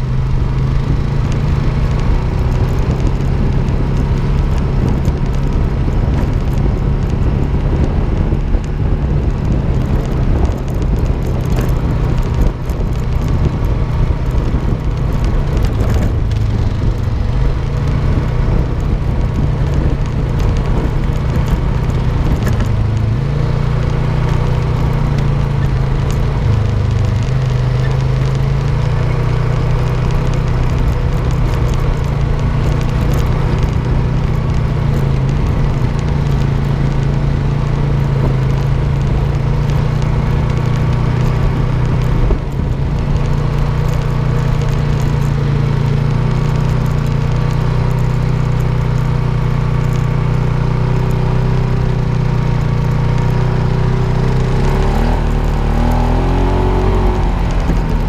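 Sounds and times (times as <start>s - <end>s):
atv engine running: 0.0s - 58.0s
rushing noise on camera: 0.0s - 58.0s.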